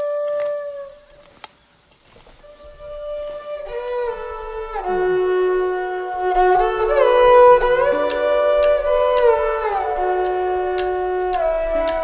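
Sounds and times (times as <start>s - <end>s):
slow bowed string melody: 2.4s - 12.0s.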